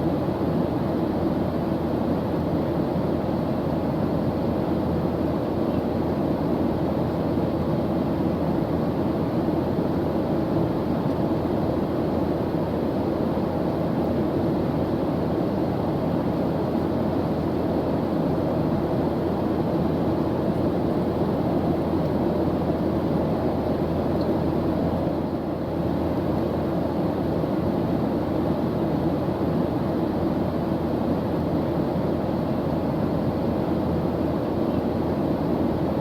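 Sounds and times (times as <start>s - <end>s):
airliner engine drone in cabin: 0.0s - 36.0s.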